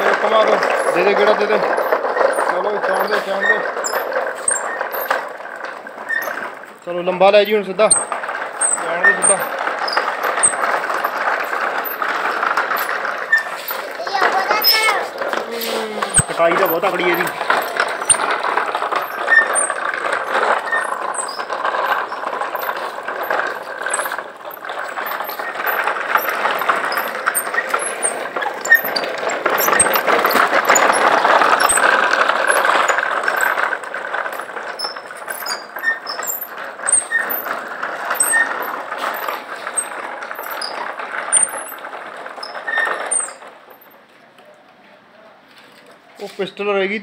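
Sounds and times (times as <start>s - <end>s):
wheels squealing: 0.0s - 44.4s
wooden wheels rolling on concrete: 0.0s - 47.0s.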